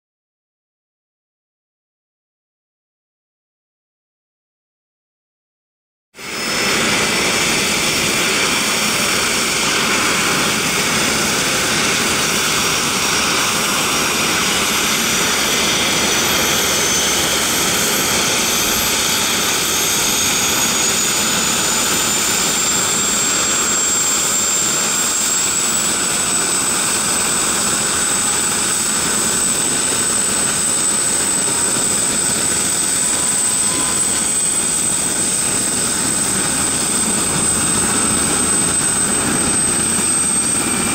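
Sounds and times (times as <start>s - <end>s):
helicopter engines running: 6.2s - 40.9s.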